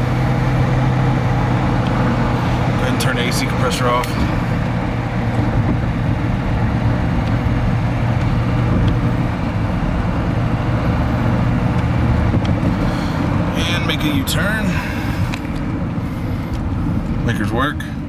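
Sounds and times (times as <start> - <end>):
car engine running: 0.0 - 18.0
road noise: 0.0 - 18.0.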